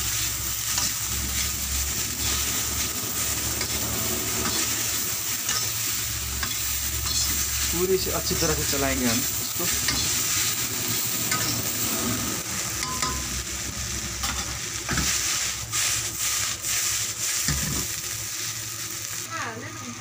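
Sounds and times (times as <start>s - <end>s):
utensil scraping wok: 0.0s - 13.2s, 14.2s - 18.9s
noodles sizzling in wok: 0.0s - 20.0s.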